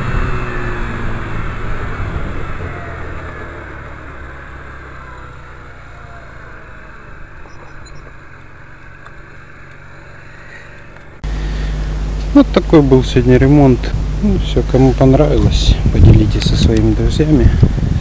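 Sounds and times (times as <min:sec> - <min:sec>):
scooter engine running: 0:00.0 - 0:14.5.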